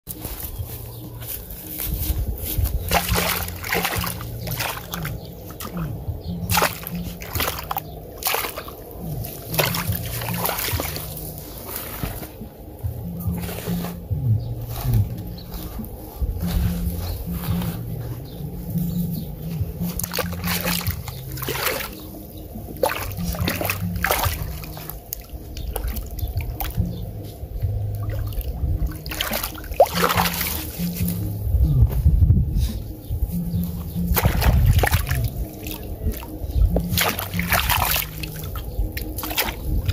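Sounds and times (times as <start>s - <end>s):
water splashing and sloshing: 0.1s - 14.1s, 18.8s - 31.6s, 33.2s - 39.9s
low sustained tones: 0.1s - 39.9s.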